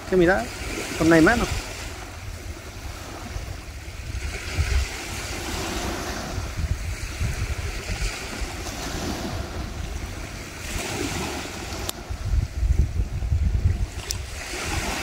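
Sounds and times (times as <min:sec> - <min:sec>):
sea surf washing onto beach: 0:00.0 - 0:15.0
wind buffeting the microphone: 0:00.0 - 0:15.0.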